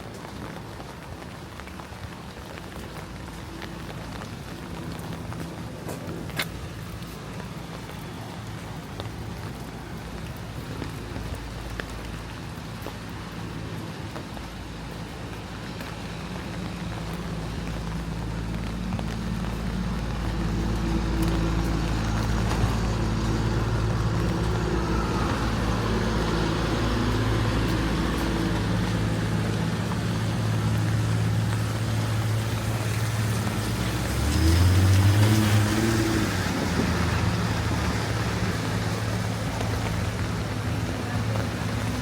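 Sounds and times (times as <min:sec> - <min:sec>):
rain hissing: 0:00.0 - 0:42.0
vehicle engine running: 0:03.5 - 0:42.0.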